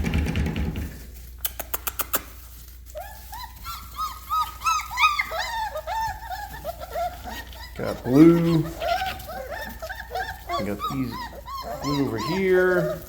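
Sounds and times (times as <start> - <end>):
puppies whining and yelping: 2.1 - 13.0.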